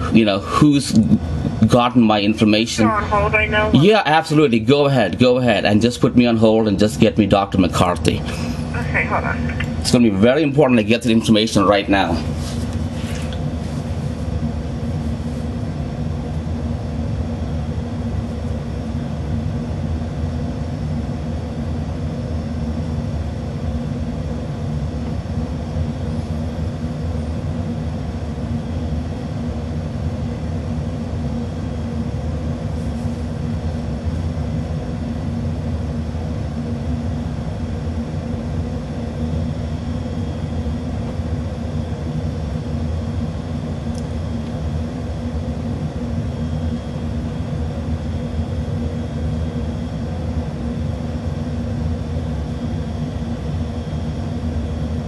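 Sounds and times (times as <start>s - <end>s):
low rumbling hum: 0.0s - 55.0s.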